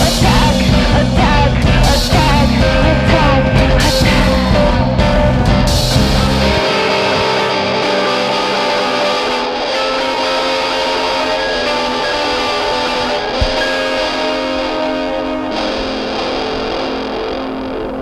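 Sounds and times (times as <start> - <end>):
electric guitars ringing chords: 0.0 - 18.0.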